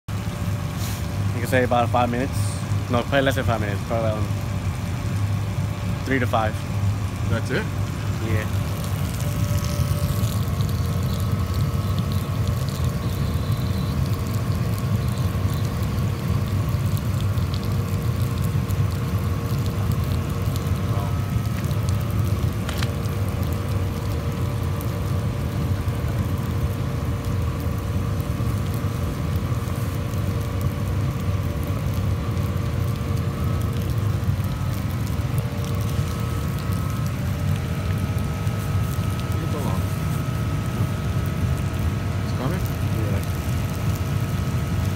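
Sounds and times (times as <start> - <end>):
machine humming with tones: 0.1 - 44.9
water gushing onto pavement: 0.1 - 44.9.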